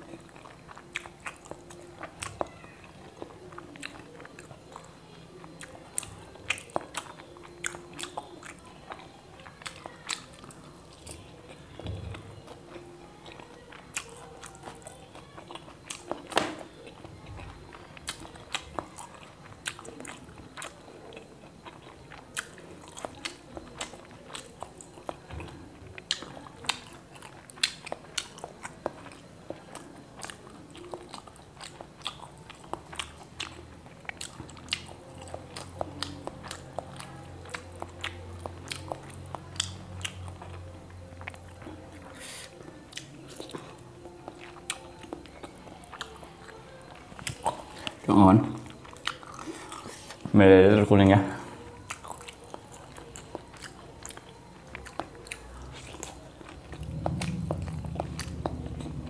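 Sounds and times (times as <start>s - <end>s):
person chewing food: 0.0s - 50.4s, 51.2s - 59.0s.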